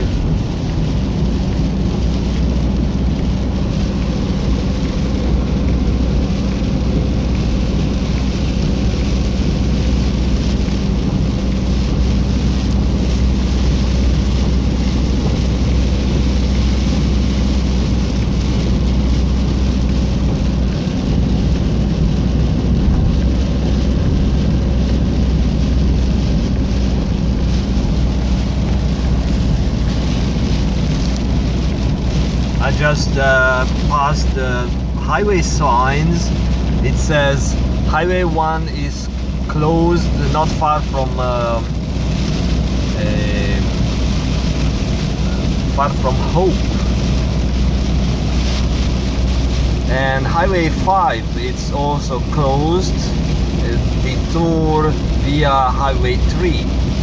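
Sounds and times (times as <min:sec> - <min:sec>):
defogger fan blowing: 0:00.0 - 0:57.0
low engine hum: 0:00.0 - 0:57.0.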